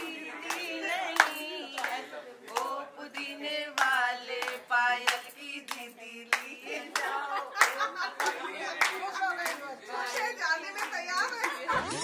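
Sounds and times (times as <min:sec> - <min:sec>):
group clapping in time: 0:00.0 - 0:11.7.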